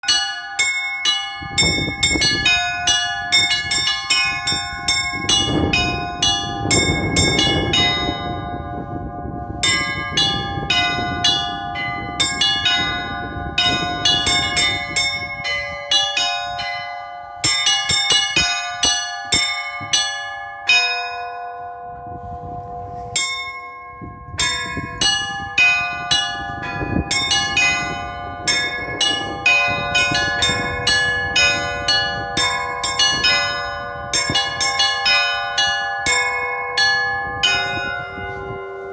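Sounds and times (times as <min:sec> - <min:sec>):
large bells ringing: 0:00.0 - 0:38.9
small church bells striking: 0:00.0 - 0:38.9.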